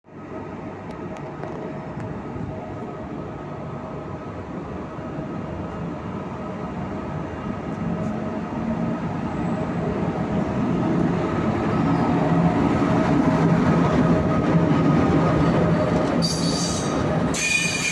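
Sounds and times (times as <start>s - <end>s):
train rumbling on rails: 0.1s - 17.9s.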